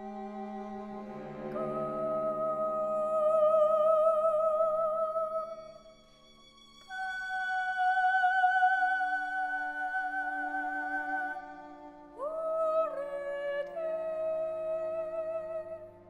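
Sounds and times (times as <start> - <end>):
soprano singing with vibrato: 0.0 - 6.0, 6.8 - 16.0.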